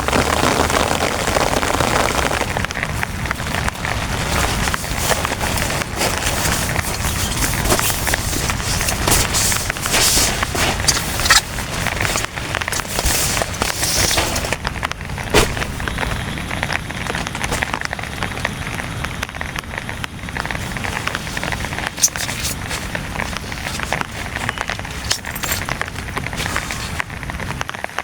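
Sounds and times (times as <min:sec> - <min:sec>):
heavy rain pattering on a tent: 0:00.0 - 0:28.0.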